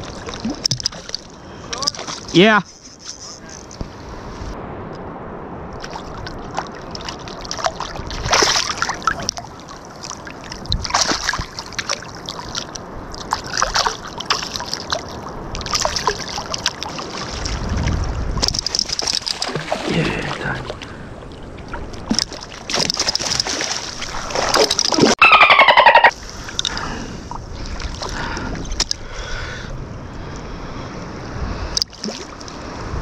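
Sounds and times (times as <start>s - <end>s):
water splashing and sloshing: 0.0s - 29.7s, 31.7s - 33.0s.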